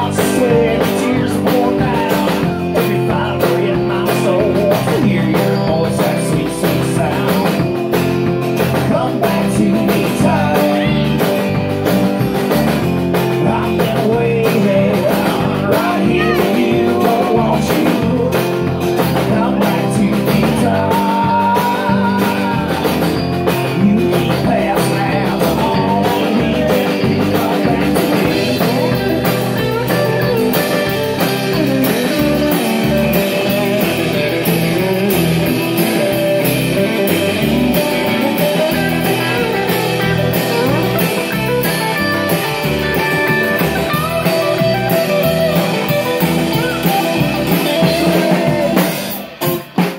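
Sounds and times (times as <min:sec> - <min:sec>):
person singing: 0:00.0 - 0:07.9, 0:08.6 - 0:11.5, 0:13.1 - 0:49.6
live rock band playing: 0:00.0 - 0:49.9.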